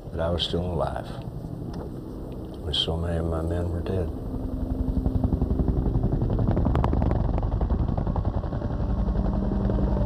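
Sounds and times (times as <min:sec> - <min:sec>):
helicopter rotor beating: 0:00.0 - 0:10.0.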